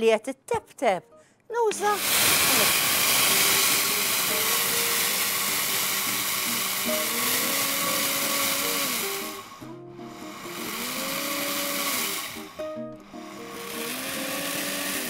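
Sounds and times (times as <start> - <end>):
blender grinding rice: 1.8 - 15.0.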